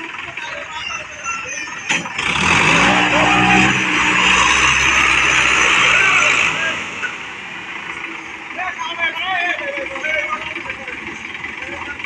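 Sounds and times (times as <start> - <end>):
faint voices: 0.0 - 12.0
tractor diesel engine running: 0.0 - 12.0.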